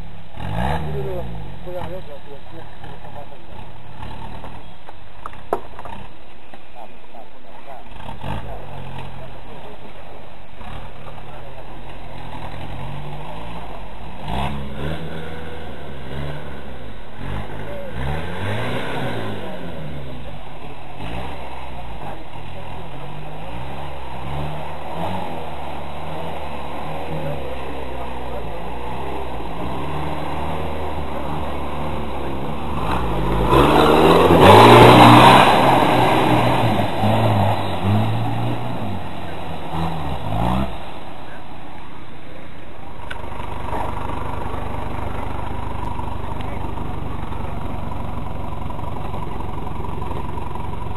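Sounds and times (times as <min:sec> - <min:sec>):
engine revving: 0:00.0 - 0:50.9.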